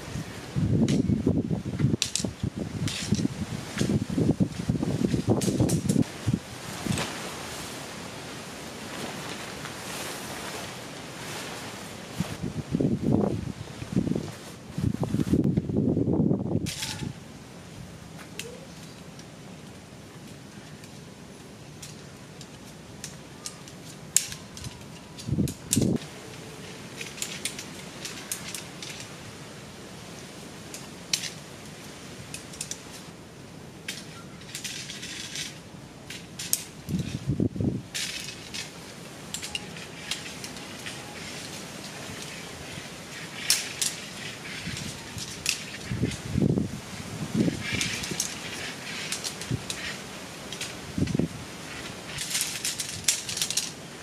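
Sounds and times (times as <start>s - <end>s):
tent pole sections clinking: 0.0s - 12.4s, 16.6s - 17.2s, 18.2s - 54.0s.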